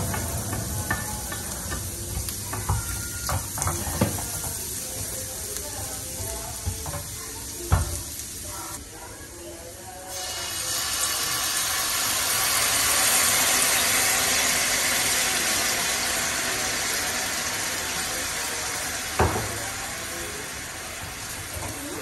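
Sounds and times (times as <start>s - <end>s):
sauce sizzling in a hot pan: 0.0s - 22.0s.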